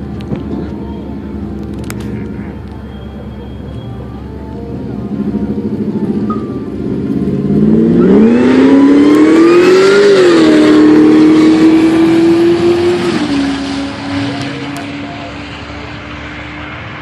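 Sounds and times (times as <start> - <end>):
truck engine accelerating hard: 0.0 - 17.0.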